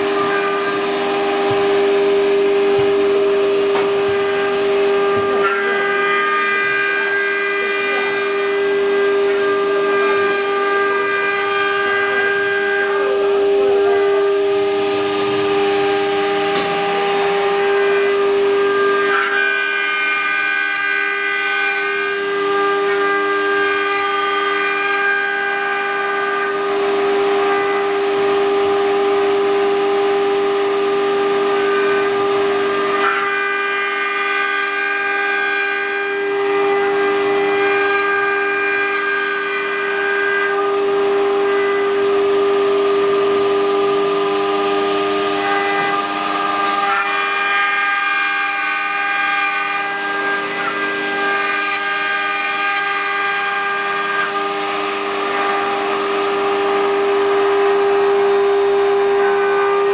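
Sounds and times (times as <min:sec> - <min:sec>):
router bits cutting wood: 0:00.0 - 0:59.9
router spindles whining: 0:00.0 - 0:59.9.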